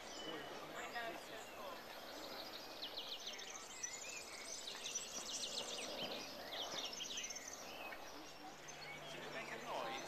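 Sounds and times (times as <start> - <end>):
birds chirping and singing: 0.0 - 10.0.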